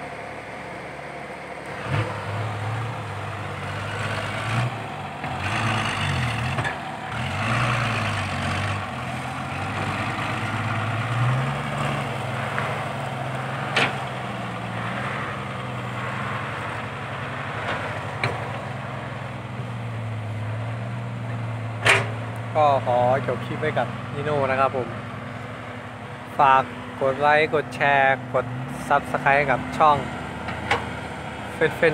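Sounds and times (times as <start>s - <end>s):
diesel engines revving: 0.0s - 31.9s.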